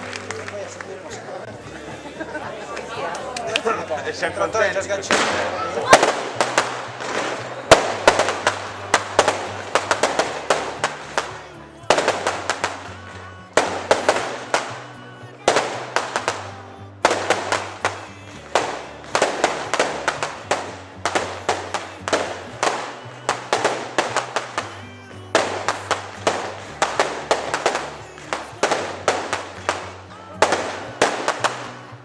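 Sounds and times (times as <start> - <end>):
music with steady bass: 0.0 - 32.0
fireworks bangs and crackling: 5.0 - 32.0.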